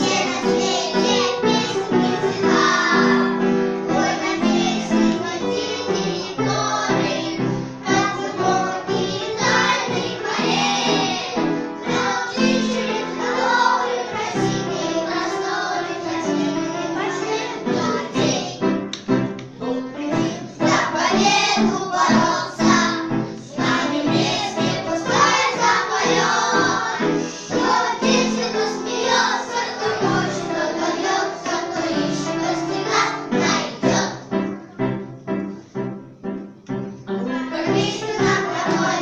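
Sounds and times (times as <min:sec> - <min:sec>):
child singing: 0:00.0 - 0:18.7, 0:19.6 - 0:34.3, 0:37.2 - 0:39.0
instrumental accompaniment: 0:00.0 - 0:39.0.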